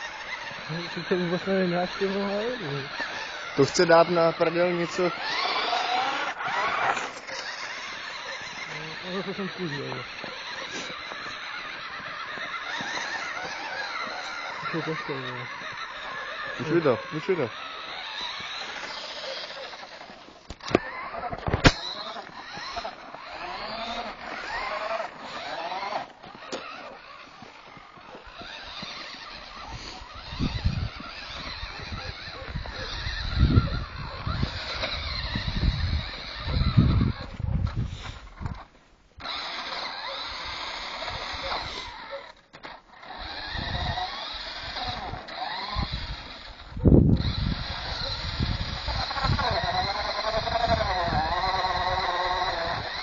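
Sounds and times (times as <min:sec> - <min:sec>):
rough rolling noise: 0:00.0 - 0:53.0
toy car motor whining: 0:00.0 - 0:53.0.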